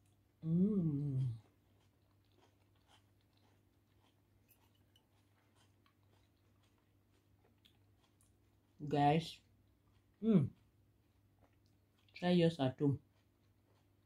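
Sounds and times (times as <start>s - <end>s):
chewing and crunching salad: 0.0s - 14.0s
low steady hum: 0.0s - 14.0s.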